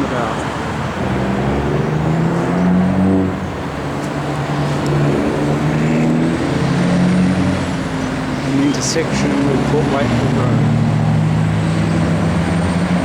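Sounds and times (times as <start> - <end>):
road noise: 0.0 - 13.0
vehicle engine droning: 0.0 - 13.0.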